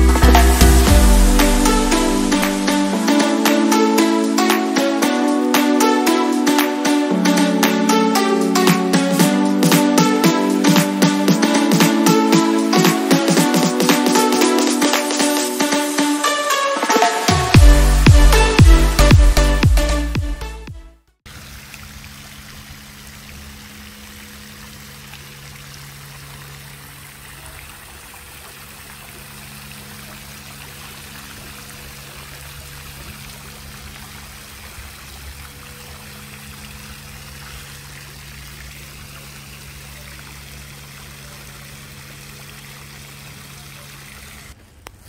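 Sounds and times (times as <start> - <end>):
fountain water splashing: 0.0 - 19.1, 21.3 - 44.6.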